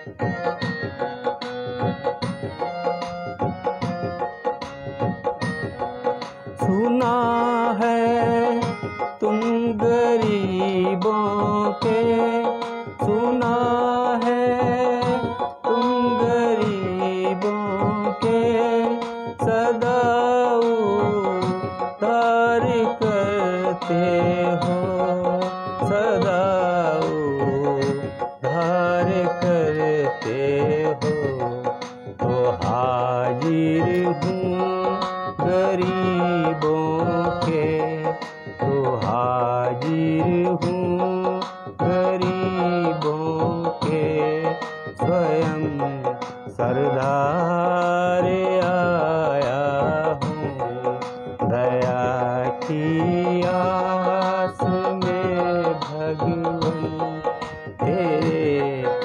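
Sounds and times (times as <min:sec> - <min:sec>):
electronic keyboard: 0:00.0 - 0:59.0
tabla rhythm: 0:00.0 - 0:59.0
man singing: 0:06.0 - 0:59.0.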